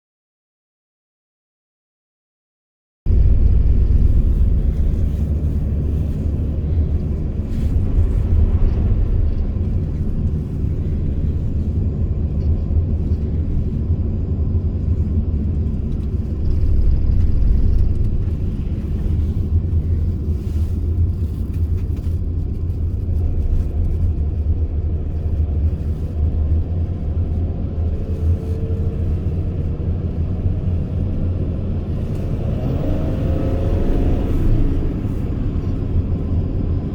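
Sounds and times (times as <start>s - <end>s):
road noise: 3.1s - 36.9s
van engine rumble: 3.1s - 36.9s.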